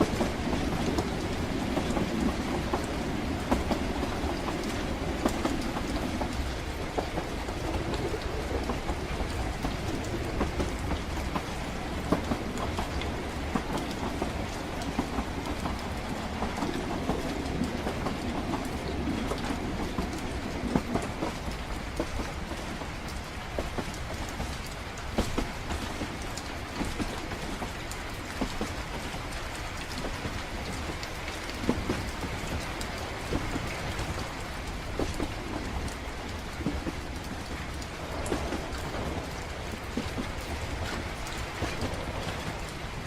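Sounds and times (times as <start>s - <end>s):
rain pattering: 0.0s - 43.0s
train rumbling on rails: 0.0s - 43.0s.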